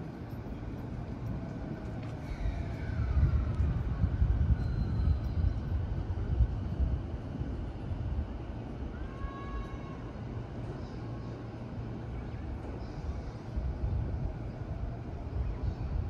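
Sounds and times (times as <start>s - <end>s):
train running gear rumble: 0.0s - 16.0s.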